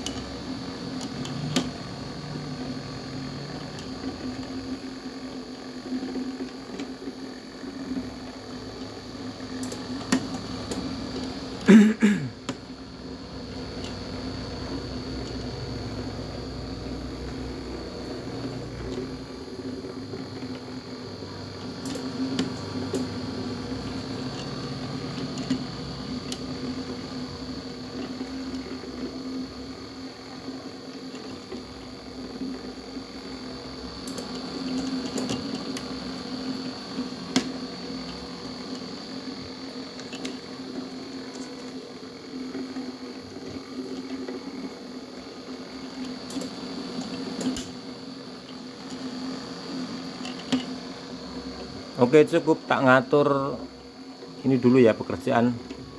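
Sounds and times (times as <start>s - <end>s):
steady machine hum: 0.0s - 55.9s.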